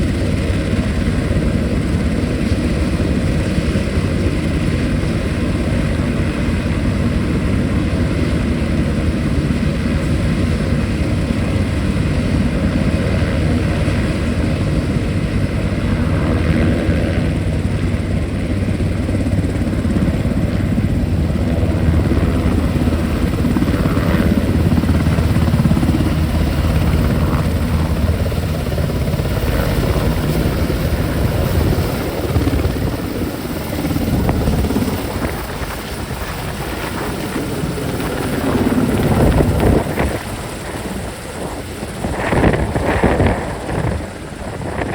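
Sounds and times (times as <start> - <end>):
helicopter rotor and turbine: 0.0 - 44.9.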